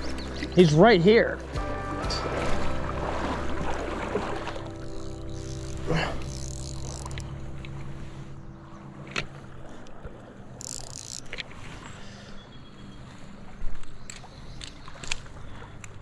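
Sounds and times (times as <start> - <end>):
stream water sloshing: 0.0 - 16.0.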